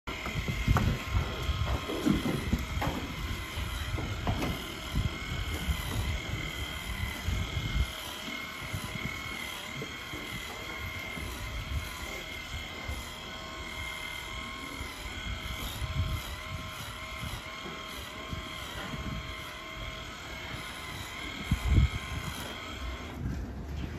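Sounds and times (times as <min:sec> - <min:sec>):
machinery drone with whining tones: 0:00.1 - 0:23.9.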